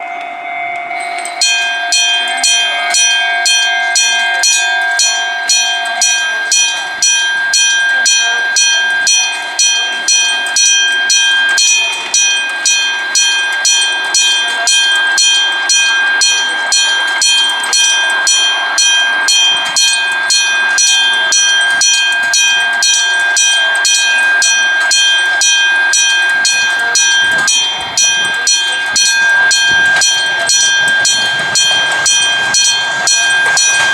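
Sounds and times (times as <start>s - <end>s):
level-crossing alarm bell ringing: 0.0s - 33.9s.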